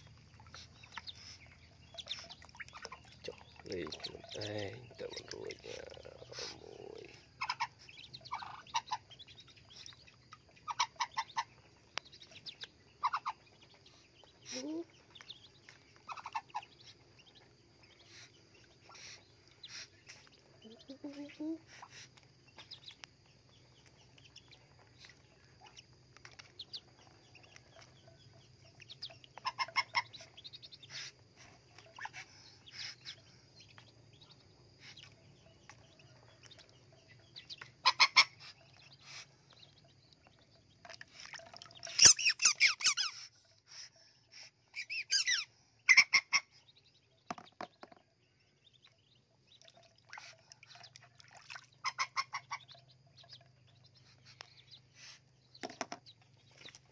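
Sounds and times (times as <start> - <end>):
ducklings peeping: 0.0 - 56.9.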